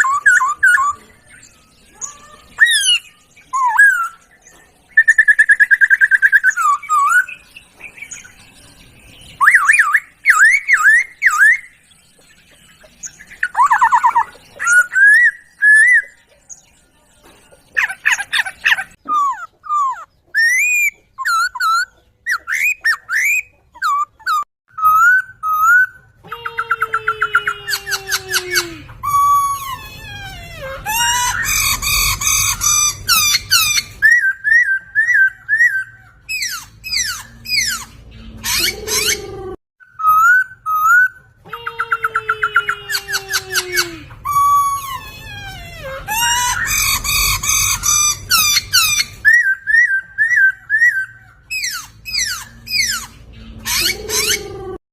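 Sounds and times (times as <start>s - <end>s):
bird harsh chattering: 0.0s - 16.3s, 17.6s - 54.8s
bird whistling song: 0.0s - 17.0s, 17.7s - 54.8s.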